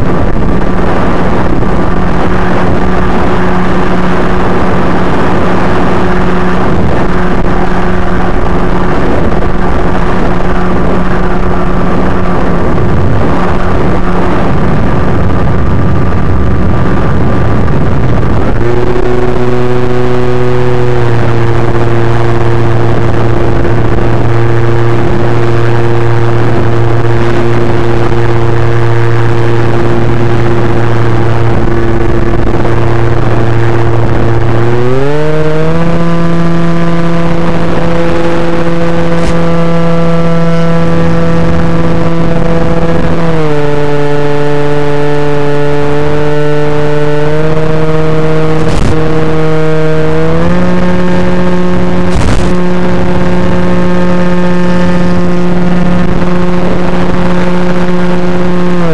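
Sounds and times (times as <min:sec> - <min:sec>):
model plane motor and propeller: 0:00.0 - 0:58.9
radio interference crackles: 0:00.0 - 0:58.9.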